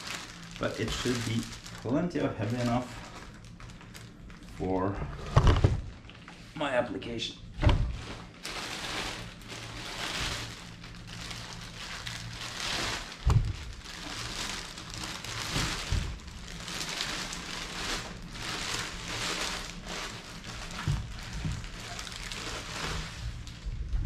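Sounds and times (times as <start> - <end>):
plastic bag crinkling: 0.0 - 4.8, 7.9 - 24.0.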